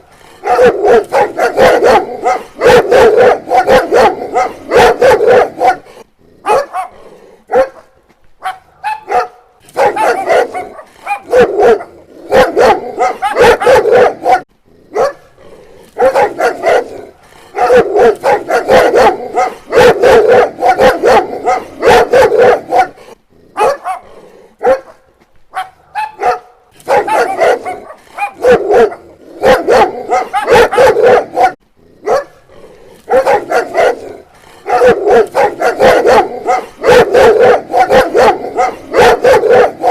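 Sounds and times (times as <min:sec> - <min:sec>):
dog barking: 0:00.4 - 0:15.3, 0:16.0 - 0:32.4, 0:33.1 - 0:39.9.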